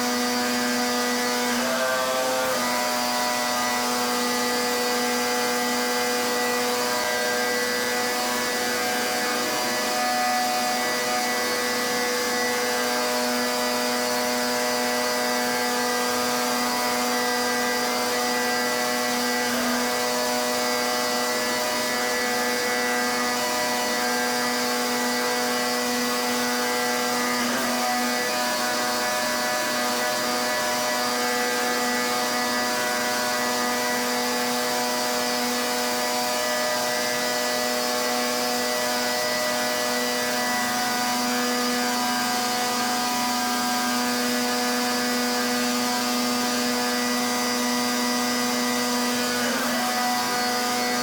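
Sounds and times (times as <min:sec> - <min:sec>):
pressure washer whine: 0:00.0 - 0:51.0.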